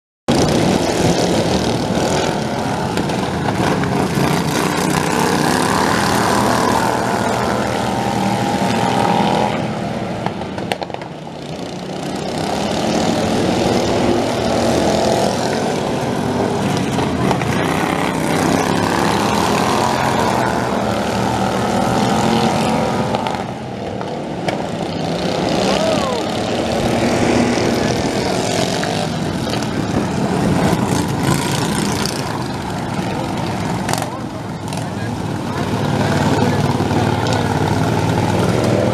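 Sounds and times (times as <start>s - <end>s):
racing lawn mower engines: 0.3s - 38.9s.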